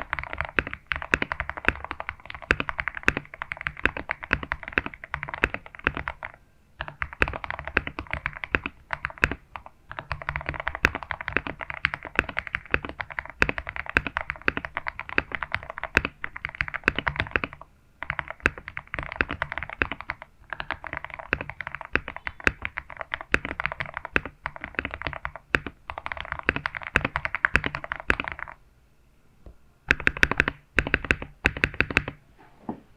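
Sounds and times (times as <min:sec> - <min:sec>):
mechanical keyboard typing: 0:00.0 - 0:28.6, 0:29.9 - 0:32.2.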